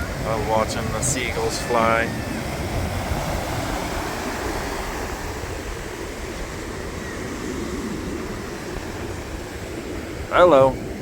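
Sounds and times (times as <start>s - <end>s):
ocean surf rushing: 0.0s - 11.0s
wind buffeting microphone: 0.0s - 11.0s.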